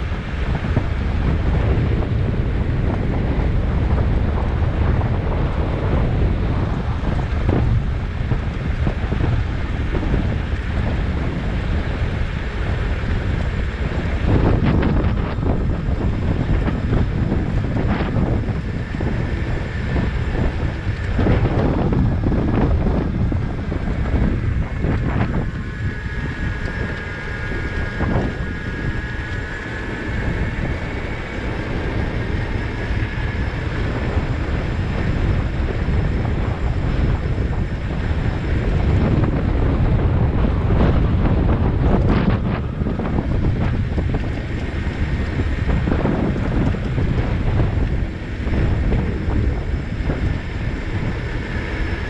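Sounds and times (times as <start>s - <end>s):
faint high whine: 0.0s - 52.0s
wind buffeting microphone: 0.0s - 52.0s.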